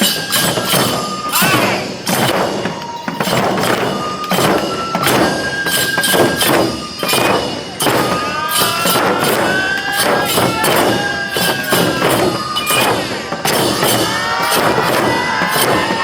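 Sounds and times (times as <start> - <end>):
bamboo flute high notes: 0.0 - 16.0
taiko drums beating: 0.0 - 16.0.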